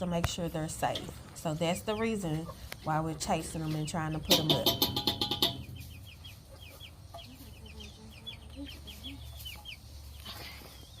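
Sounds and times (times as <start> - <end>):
chickens clucking softly: 1.6 - 11.0.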